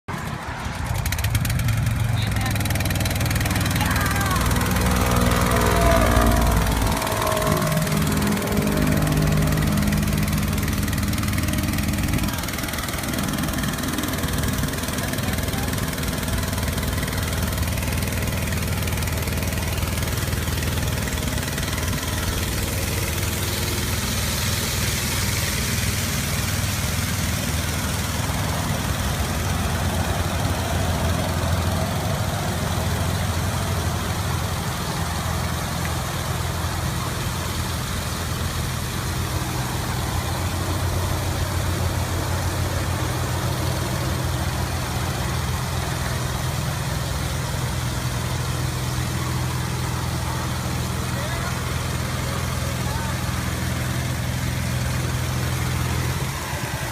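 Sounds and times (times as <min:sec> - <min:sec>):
small boat engine humming: 0:00.1 - 0:56.9.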